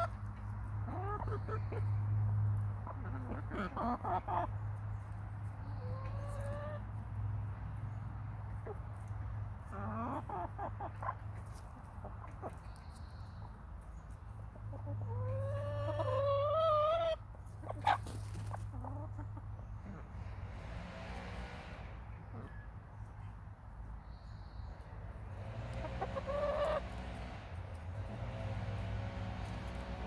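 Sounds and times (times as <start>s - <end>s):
hens clucking: 0.0s - 6.9s, 8.5s - 23.2s, 25.3s - 30.0s.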